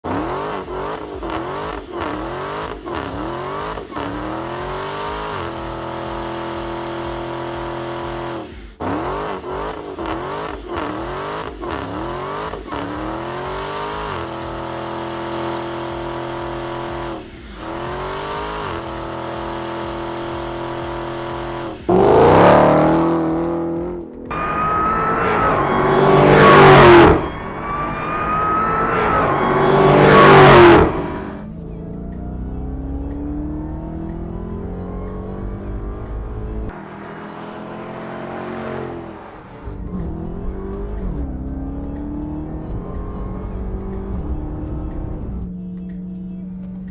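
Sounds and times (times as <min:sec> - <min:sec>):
car engine accelerating hard: 0:00.0 - 0:46.9.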